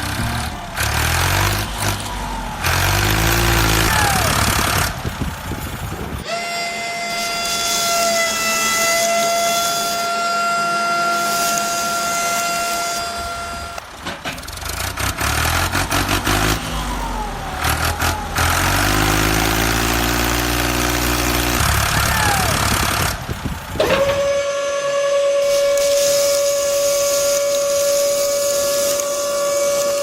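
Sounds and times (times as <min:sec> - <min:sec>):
vehicle engine revving: 0:00.0 - 0:06.2, 0:11.2 - 0:30.0.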